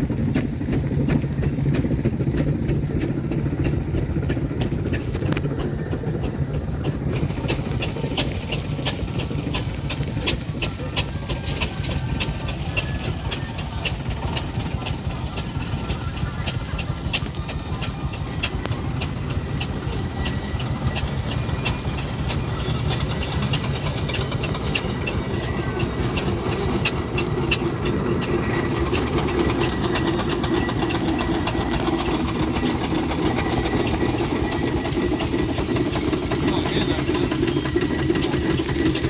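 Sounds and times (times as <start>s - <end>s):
rail clicking: 0.0s - 39.0s
train rumbling on rails: 0.0s - 39.0s.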